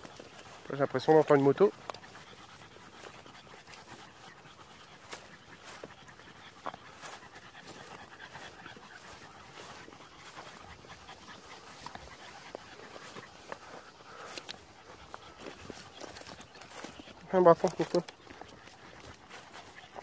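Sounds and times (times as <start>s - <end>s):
dog panting: 0.0s - 20.0s
footsteps through brush: 0.0s - 20.0s.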